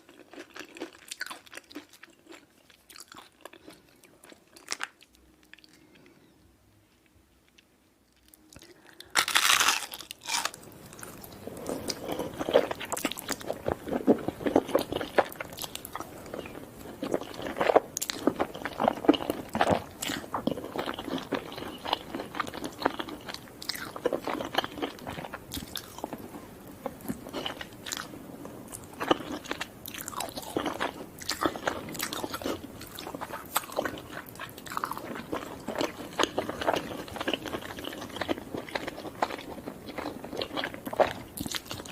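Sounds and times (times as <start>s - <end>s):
crunchy bites and chewing: 0.1s - 5.8s, 8.2s - 26.2s, 28.7s - 41.9s.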